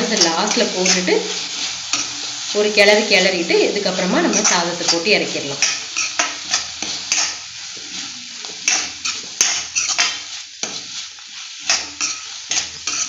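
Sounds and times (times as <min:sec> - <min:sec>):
vegetables sizzling: 0:00.0 - 0:13.0.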